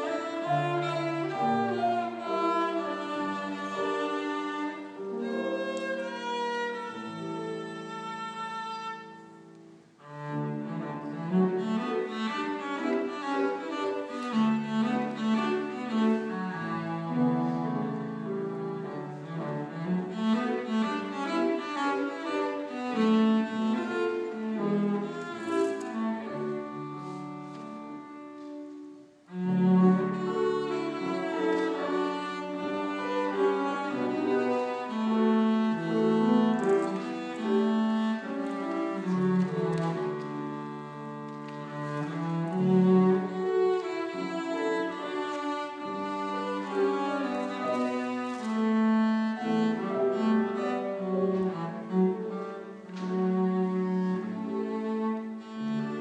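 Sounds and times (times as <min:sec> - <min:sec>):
bowed cello: 0:00.0 - 0:56.0
piano accompaniment: 0:00.0 - 0:56.0.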